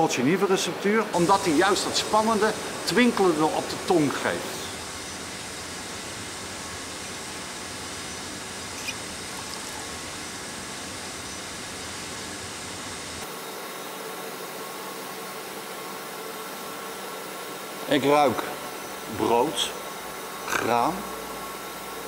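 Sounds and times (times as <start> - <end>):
room background hiss: 0.0 - 22.0.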